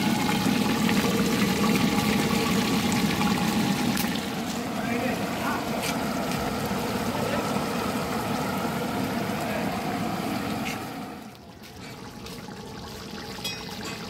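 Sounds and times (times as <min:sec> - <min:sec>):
pot of gravy bubbling: 0:00.0 - 0:14.0.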